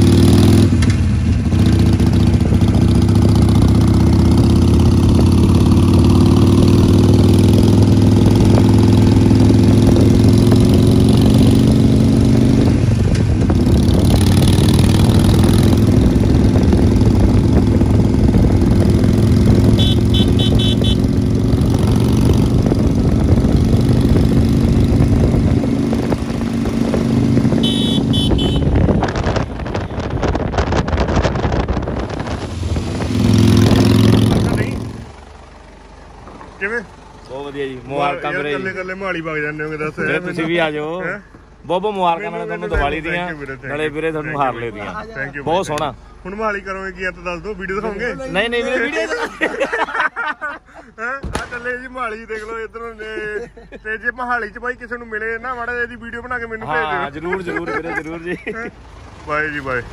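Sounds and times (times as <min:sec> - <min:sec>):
motorcycle engine cruising: 0:00.0 - 0:46.2, 0:56.6 - 0:59.9.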